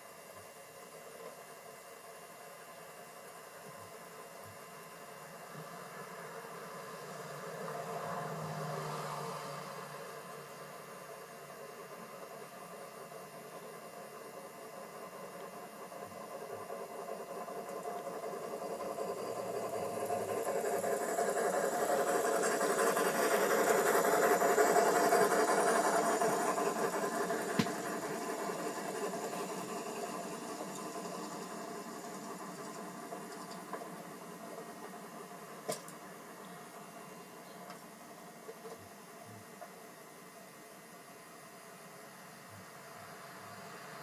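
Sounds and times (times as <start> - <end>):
model train wheels rumbling: 0.2 - 38.7.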